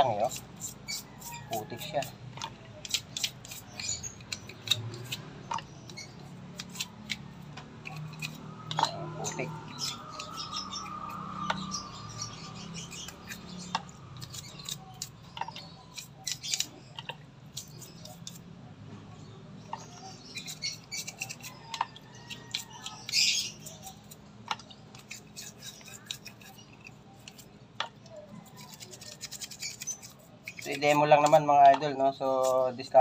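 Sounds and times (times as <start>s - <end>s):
brush scrubbing brake caliper: 0.0s - 16.8s, 17.5s - 18.4s, 19.7s - 24.2s, 24.9s - 27.5s, 28.3s - 33.0s.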